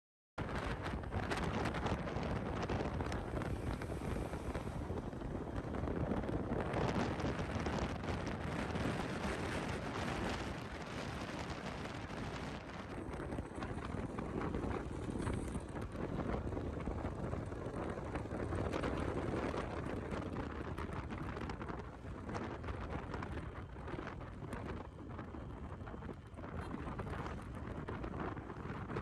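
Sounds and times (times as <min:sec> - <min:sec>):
wind buffeting microphone: 0:00.4 - 0:29.0.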